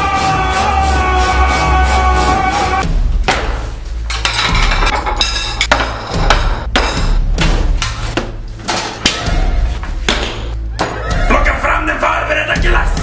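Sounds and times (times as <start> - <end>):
bass-heavy music: 0.0 - 13.0.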